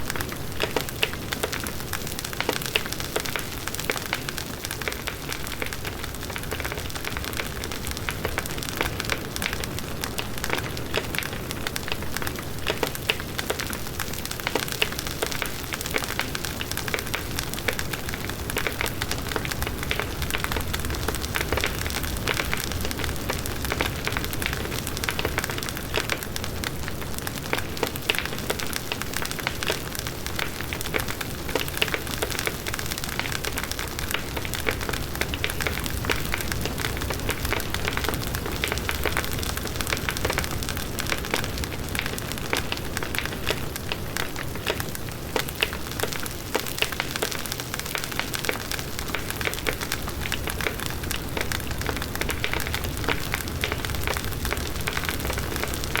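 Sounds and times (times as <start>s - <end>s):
wood crackling and popping: 0.0s - 56.0s
low rumble of flames: 0.1s - 56.0s.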